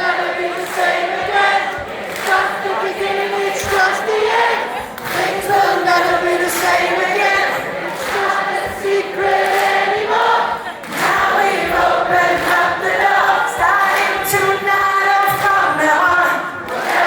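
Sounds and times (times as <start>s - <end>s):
concert audience singing together: 0.0s - 17.0s.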